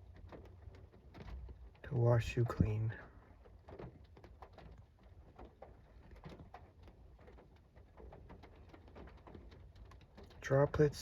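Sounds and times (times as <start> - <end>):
raindrops ticking on a window: 0.0 - 11.0.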